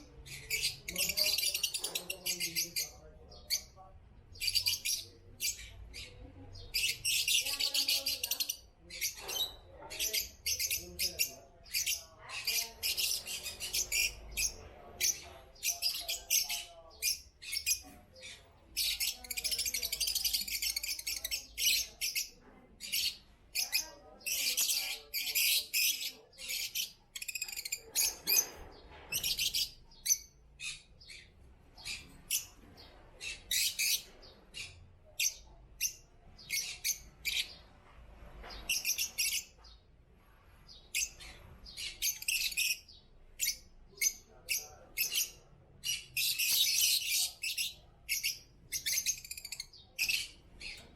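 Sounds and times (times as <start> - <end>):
lovebirds chirping: 0.0 - 50.9.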